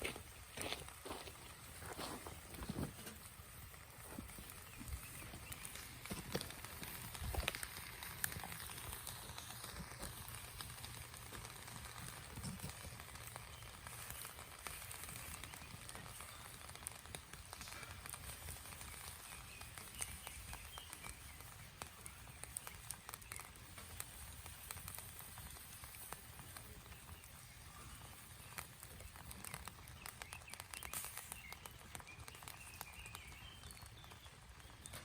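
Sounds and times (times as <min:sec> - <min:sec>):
food crackling and sizzling in pan: 0:00.0 - 0:35.0.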